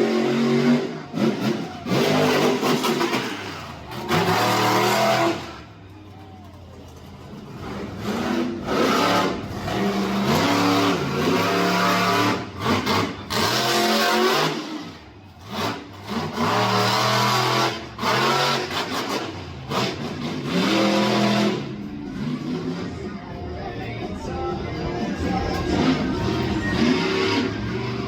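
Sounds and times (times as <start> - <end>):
monster truck engine revving: 0.0 - 5.9, 6.8 - 28.0.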